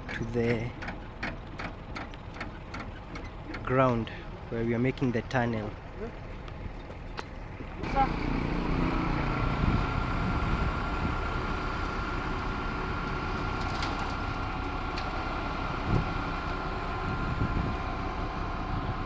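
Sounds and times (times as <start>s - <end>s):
concrete mixer truck running: 0.0s - 19.0s.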